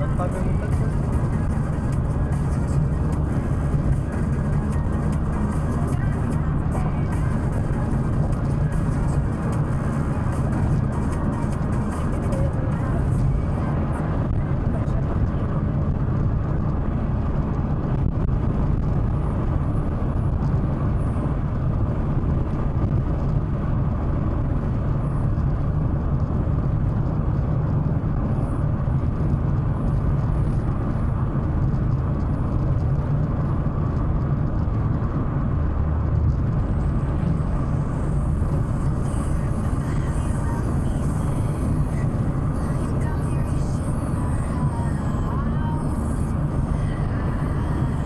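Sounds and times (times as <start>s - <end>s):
car cabin road and engine drone: 0.0s - 48.0s.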